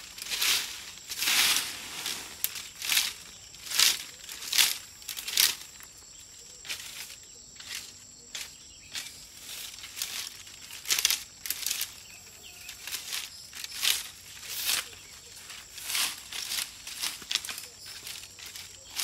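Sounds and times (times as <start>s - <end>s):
twig broom sweeping leaves: 0.0s - 19.0s.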